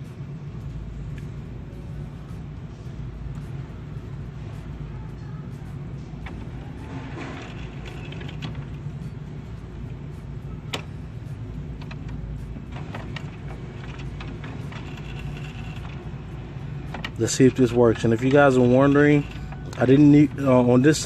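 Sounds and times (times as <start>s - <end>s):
printer mechanical hum: 0.0s - 21.0s.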